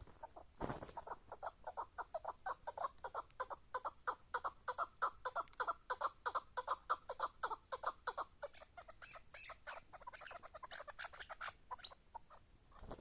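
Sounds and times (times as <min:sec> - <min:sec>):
partridge clucking calls: 0:00.0 - 0:13.0.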